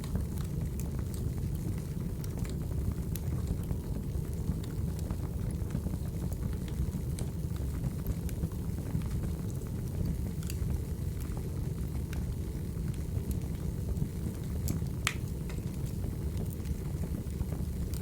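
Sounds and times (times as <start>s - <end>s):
fire popping and crackling: 0.0s - 18.0s
low rumble of flames: 0.0s - 18.0s.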